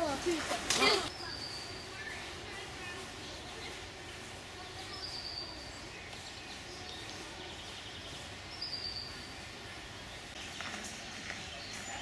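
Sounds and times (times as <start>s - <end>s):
woodland ambience: 0.0s - 12.0s.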